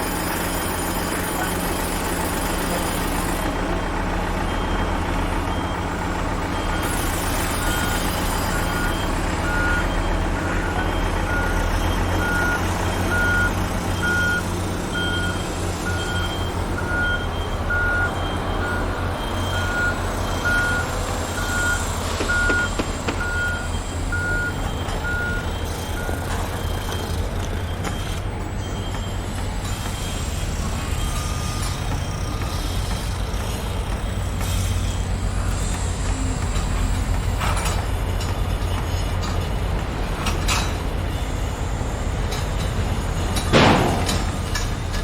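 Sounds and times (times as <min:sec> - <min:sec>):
reversing alarm beeping: 0:00.0 - 0:39.5
diesel engine rumbling: 0:00.0 - 0:45.0.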